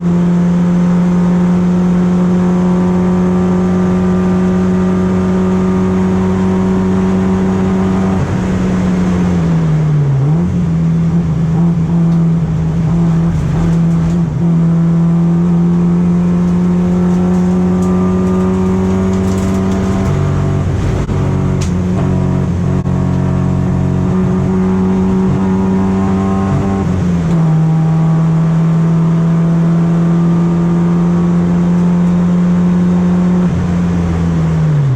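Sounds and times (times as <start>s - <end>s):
race car engine at high revs: 0.0s - 34.9s.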